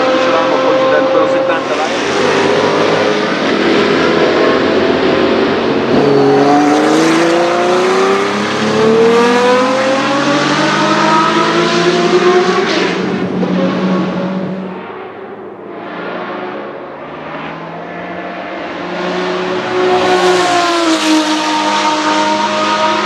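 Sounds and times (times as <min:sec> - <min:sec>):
racing car engine at full throttle: 0:00.0 - 0:23.0.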